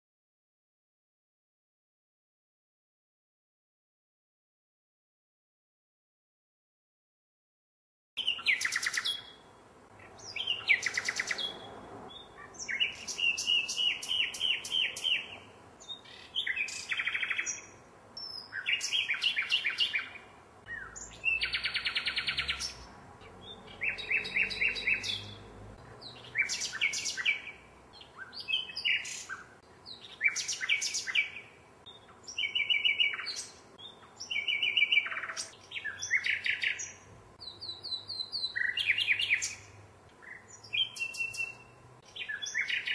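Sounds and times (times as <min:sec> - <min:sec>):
nightingale singing trills: 0:08.2 - 0:42.9.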